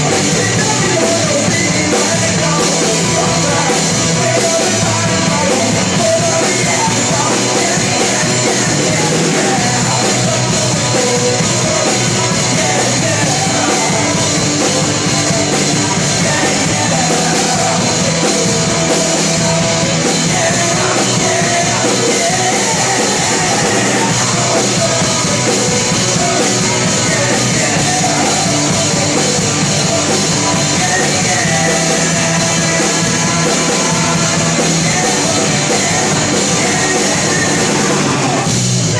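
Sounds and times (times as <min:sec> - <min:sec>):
band playing rock song: 0:00.0 - 0:38.9.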